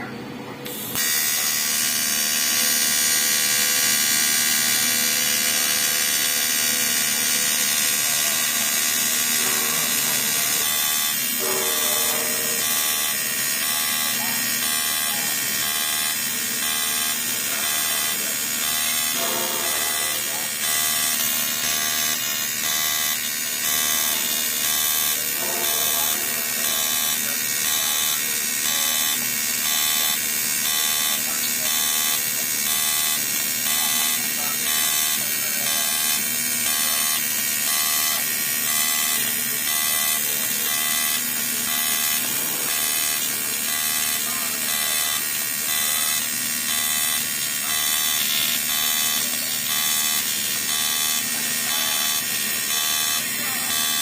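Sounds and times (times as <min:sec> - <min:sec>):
welding arc buzzing: 0:00.6 - 0:54.0.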